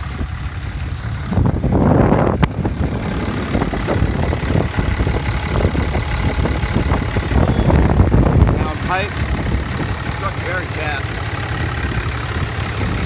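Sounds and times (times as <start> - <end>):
wind buffeting microphone: 0.0 - 10.7, 11.3 - 13.0
diesel engine idling: 0.0 - 13.0.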